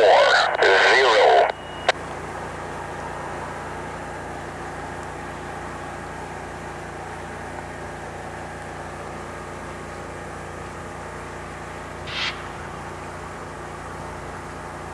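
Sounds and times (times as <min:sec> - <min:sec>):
diesel locomotive engine drone: 0:00.0 - 0:14.9.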